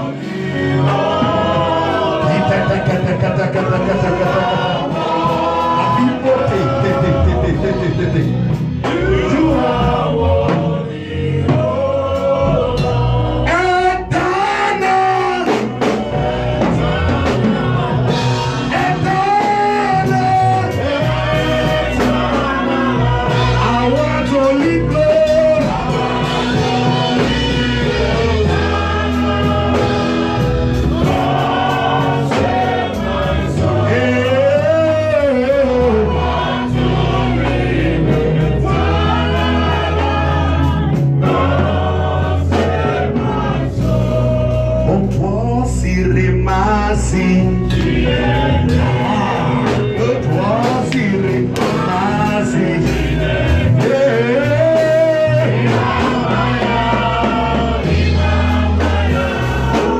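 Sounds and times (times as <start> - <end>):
group singing gospel song: 0.0 - 59.9
held bass line: 0.0 - 59.9.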